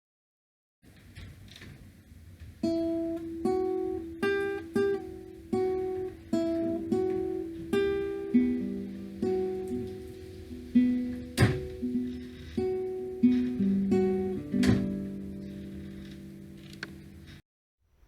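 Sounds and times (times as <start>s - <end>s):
faint hiss: 0.9s - 18.0s
acoustic guitar picked notes: 2.6s - 17.4s.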